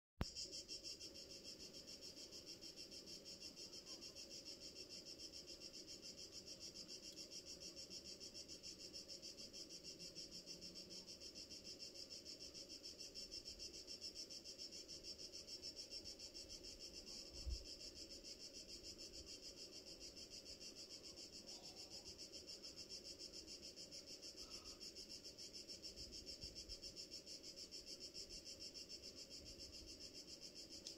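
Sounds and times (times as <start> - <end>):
crickets chirring: 0.2 - 30.9.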